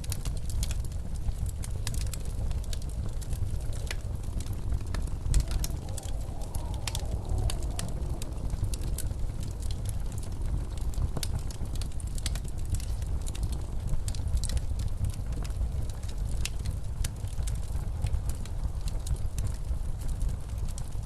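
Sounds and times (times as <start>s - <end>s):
blizzard wind rumble: 0.0s - 21.0s
wood fire crackling: 0.0s - 21.0s.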